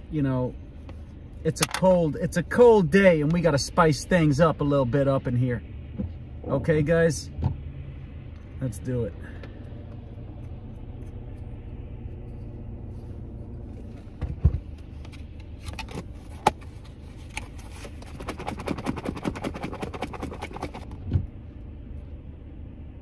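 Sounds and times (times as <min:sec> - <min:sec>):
car idling: 0:00.0 - 0:23.0.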